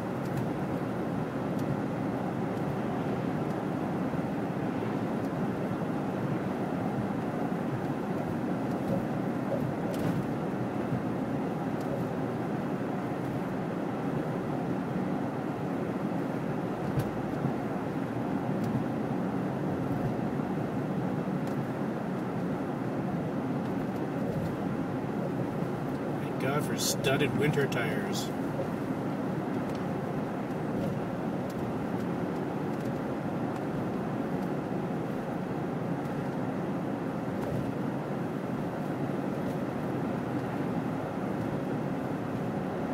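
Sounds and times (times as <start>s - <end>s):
car road and engine noise: 0.0s - 42.9s.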